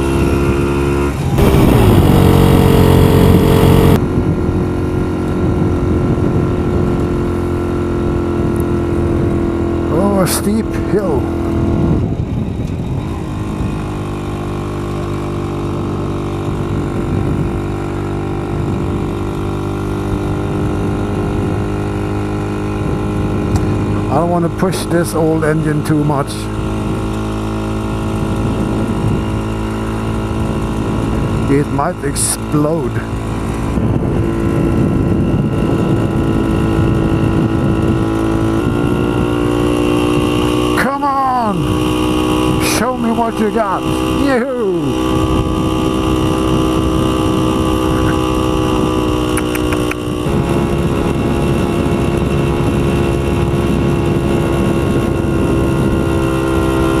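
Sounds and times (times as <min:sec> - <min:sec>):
wind rumble on microphone: 0:00.0 - 0:25.4, 0:26.0 - 0:40.9, 0:41.5 - 0:57.0
motorcycle engine running: 0:00.0 - 0:57.0.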